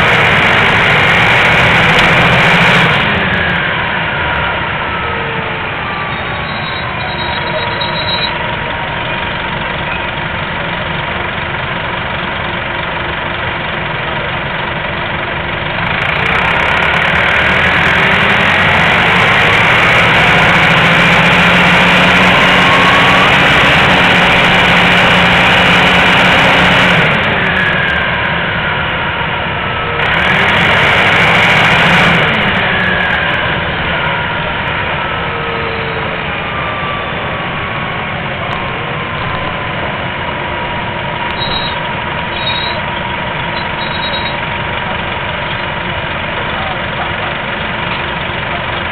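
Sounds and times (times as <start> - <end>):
bus diesel engine: 0.0 - 48.9.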